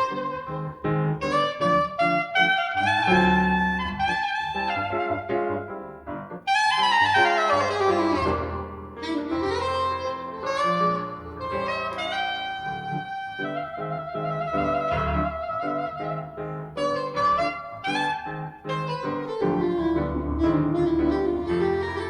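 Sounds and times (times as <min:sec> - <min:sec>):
piano chords: 0:00.0 - 0:22.0
soprano saxophone melody: 0:00.0 - 0:22.0.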